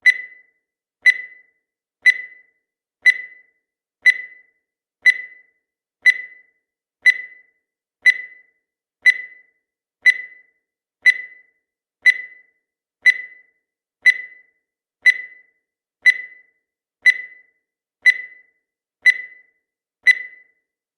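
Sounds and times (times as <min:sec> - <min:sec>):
short sharp timer beeps: 0:00.0 - 0:20.7.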